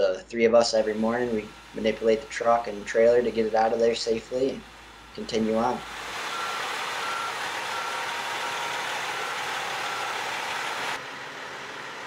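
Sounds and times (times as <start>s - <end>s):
road noise: 0.0s - 12.0s
truck engine: 0.0s - 12.0s
truck backup alarm beeping: 0.7s - 11.0s.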